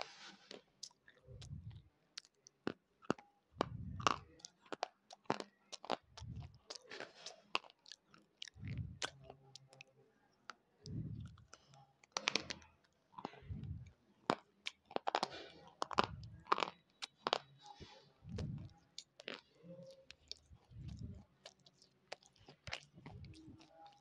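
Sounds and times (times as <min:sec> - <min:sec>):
gritty crunching of chewing: 0:00.0 - 0:24.0.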